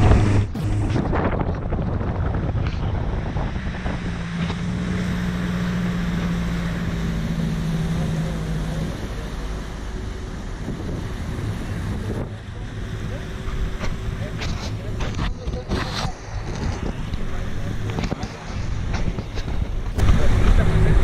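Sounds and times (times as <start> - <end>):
speedboat engine drone: 0.0 - 21.0
water rushing and splashing: 0.0 - 21.0
wind buffeting microphone: 0.0 - 21.0.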